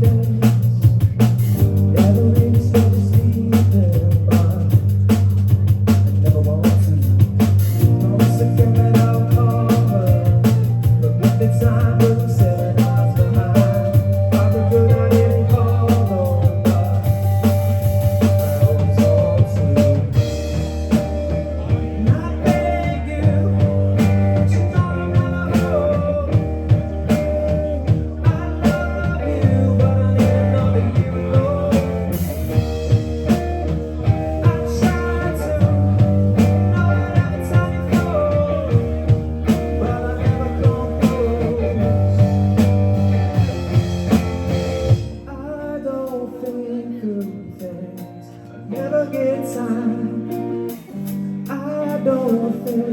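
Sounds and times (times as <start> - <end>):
drum kit: 0.0 - 46.6, 50.3 - 52.9
bass guitar: 0.0 - 52.9
electric guitars: 0.0 - 52.9
person singing: 6.1 - 43.6, 45.1 - 52.9.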